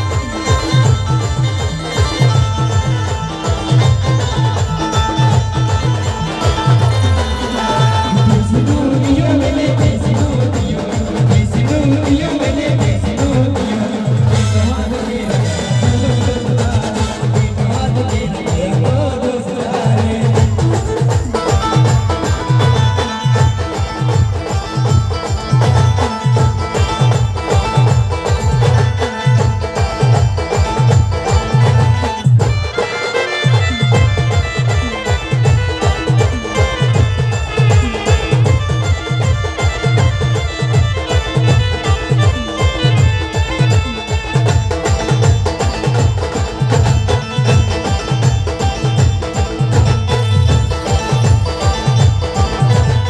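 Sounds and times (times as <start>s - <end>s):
band music: 0.0s - 53.0s
held melody line: 0.0s - 53.0s.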